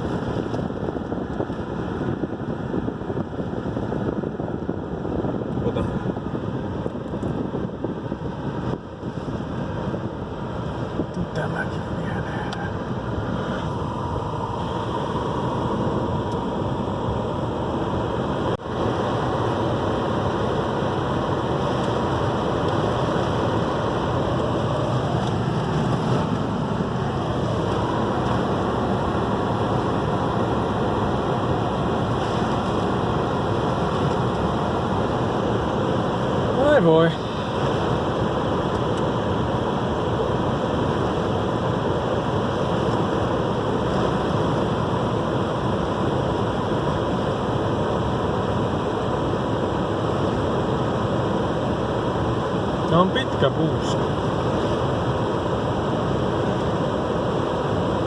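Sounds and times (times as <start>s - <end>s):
storm wind buffeting microphone: 0.0s - 58.0s.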